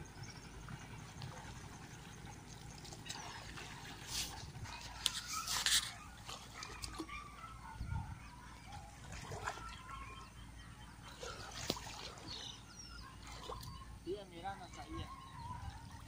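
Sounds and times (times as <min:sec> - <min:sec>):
bird calls: 0:00.0 - 0:16.0
water splashing: 0:00.6 - 0:07.3, 0:08.6 - 0:10.1, 0:11.1 - 0:16.0.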